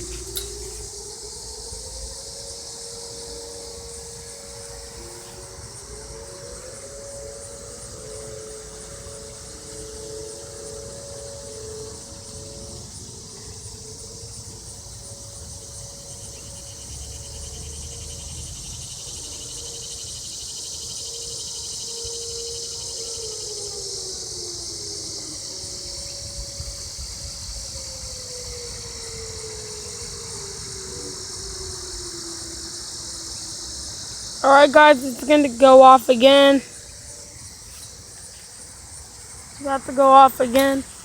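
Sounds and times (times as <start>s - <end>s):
distant warning sirens: 0.0s - 41.0s
insects chirping: 0.0s - 41.0s.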